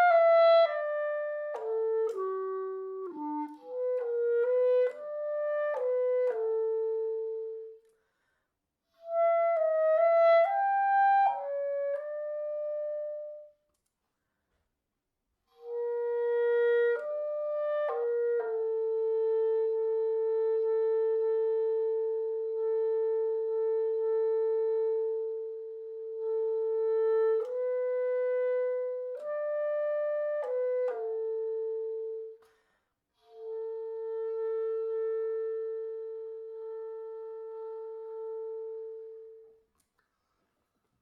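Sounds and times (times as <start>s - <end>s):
solo woodwind melody: 0.0s - 13.8s, 15.4s - 40.4s.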